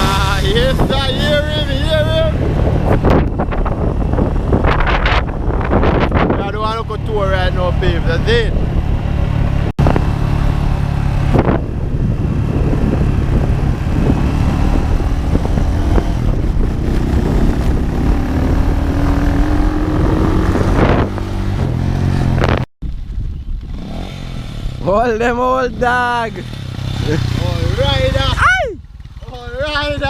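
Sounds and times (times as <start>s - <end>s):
vehicle engine running: 0.0s - 22.6s, 23.3s - 30.0s.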